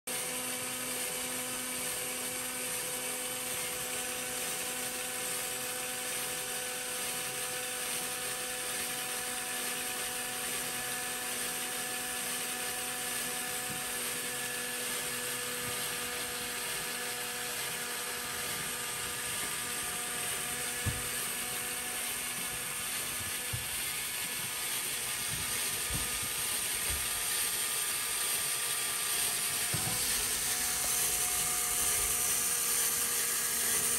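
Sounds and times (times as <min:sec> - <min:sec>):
electric motor whine: 0:00.1 - 0:33.9.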